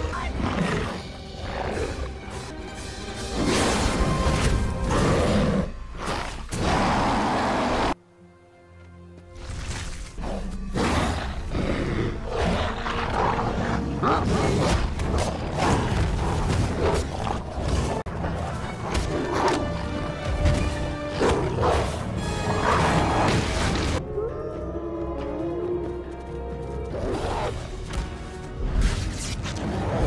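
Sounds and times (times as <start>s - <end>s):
film music: 0.0s - 30.0s.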